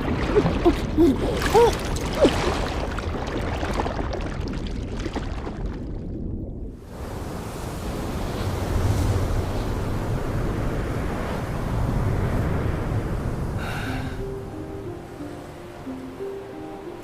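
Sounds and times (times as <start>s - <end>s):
rushing wind and water: 0.0s - 17.0s.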